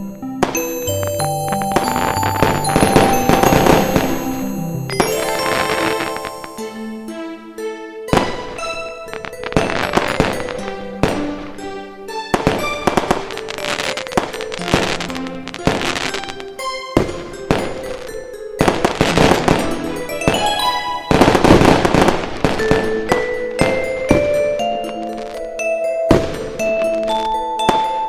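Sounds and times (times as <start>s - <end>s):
mallet music with ringing notes: 0.0s - 28.0s
firework bangs and crackle: 0.4s - 6.7s, 8.1s - 11.6s, 12.3s - 16.4s, 17.0s - 24.5s, 26.1s - 28.0s.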